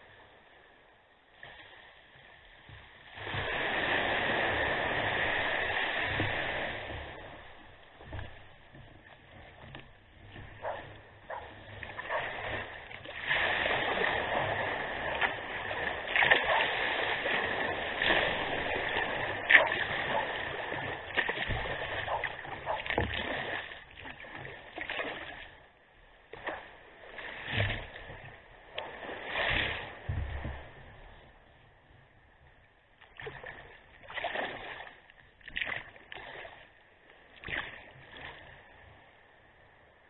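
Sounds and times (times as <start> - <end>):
paddle splashes: 0.0 - 39.8
water washing against kayak: 1.3 - 39.4.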